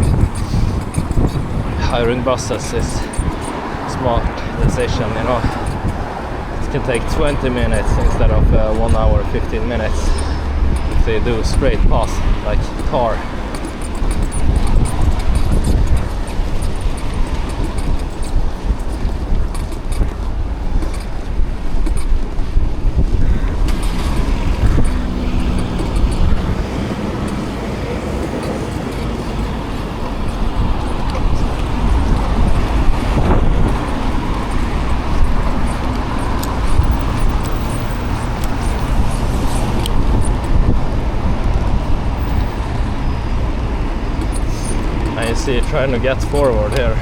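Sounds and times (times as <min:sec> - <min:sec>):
cars passing close by: 0:00.0 - 0:47.0
low traffic rumble: 0:00.0 - 0:47.0.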